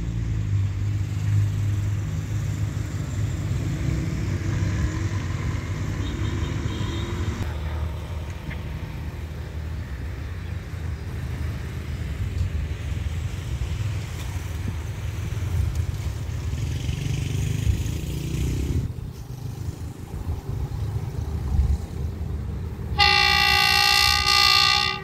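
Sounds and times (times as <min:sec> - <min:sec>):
diesel locomotive engine rumble: 0:00.0 - 0:16.8, 0:18.8 - 0:25.0.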